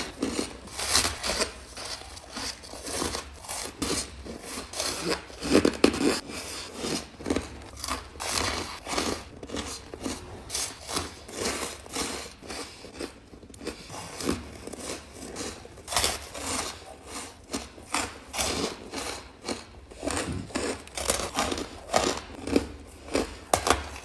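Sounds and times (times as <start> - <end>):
ice being crunched and chewed: 0.0 - 24.0.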